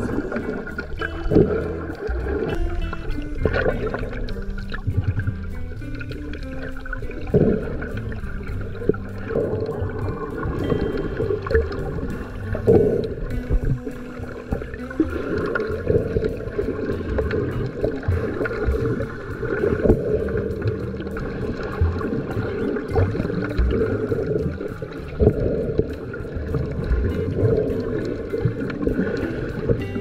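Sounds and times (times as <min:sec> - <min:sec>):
muffled underwater churning: 0:00.0 - 0:30.0.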